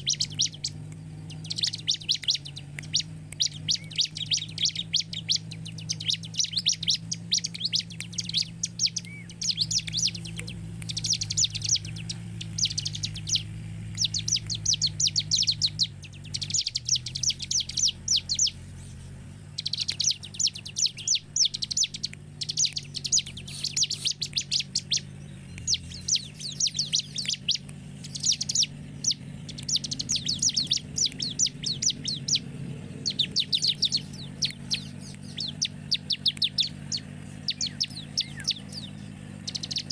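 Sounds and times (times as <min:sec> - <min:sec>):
bird singing rapid high chips: 0:00.0 - 0:39.9.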